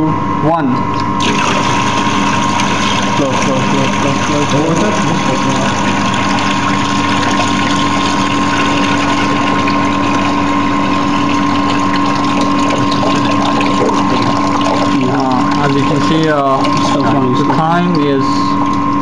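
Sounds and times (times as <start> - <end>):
machine hum: 0.0 - 19.0
water draining from tank: 1.0 - 19.0.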